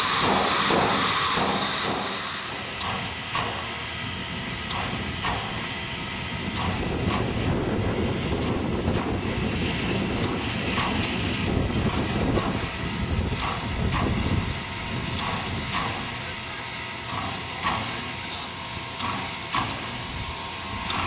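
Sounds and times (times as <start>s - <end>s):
steam exhaust rushing hiss: 0.0s - 21.0s
steam locomotive passing: 0.0s - 21.0s.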